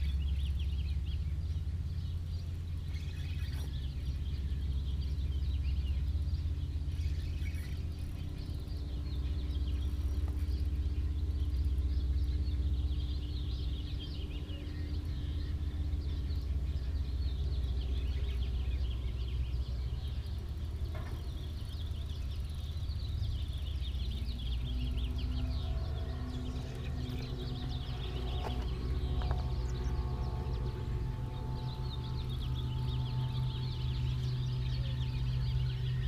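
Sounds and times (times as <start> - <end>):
low rumble: 0.0 - 36.0
small birds chirping and trilling: 0.0 - 36.0.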